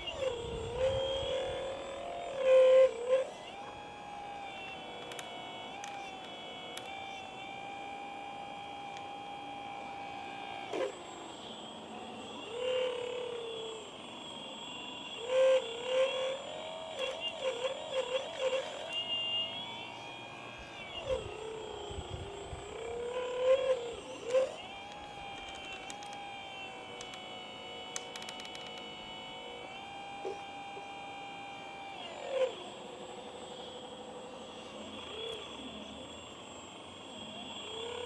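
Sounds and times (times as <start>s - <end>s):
electric motors whining: 0.0s - 38.0s.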